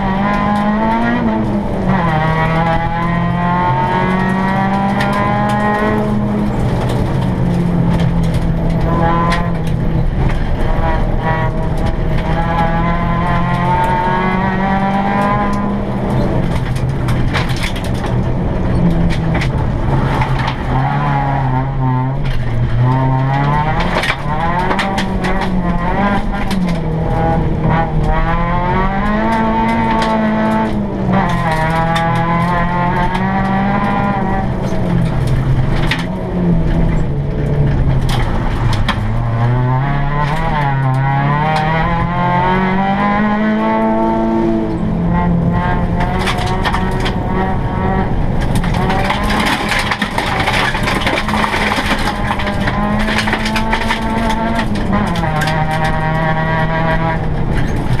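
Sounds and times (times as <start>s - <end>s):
car engine revving: 0.0s - 58.0s
gravel ticking and knocking: 0.0s - 58.0s.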